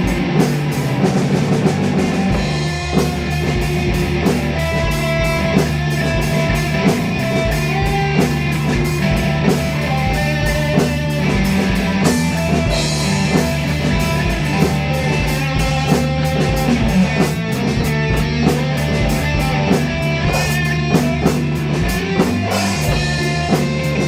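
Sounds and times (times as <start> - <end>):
drum kit beat: 0.0 - 24.0
psychedelic rock guitar: 0.0 - 24.0.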